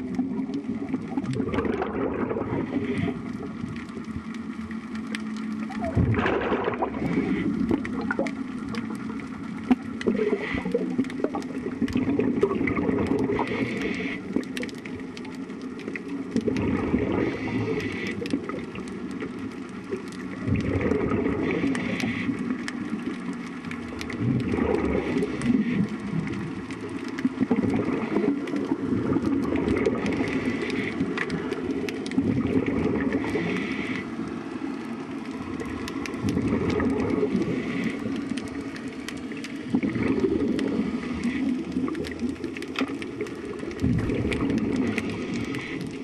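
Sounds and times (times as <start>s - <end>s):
water sloshing against hull: 0.0s - 46.0s.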